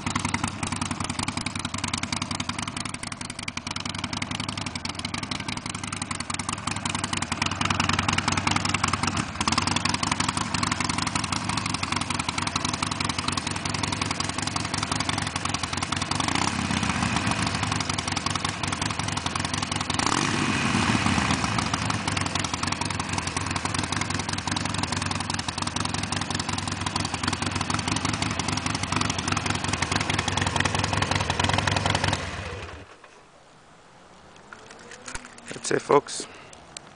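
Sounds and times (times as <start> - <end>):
motorcycle engine idling and revving: 0.0 - 33.1.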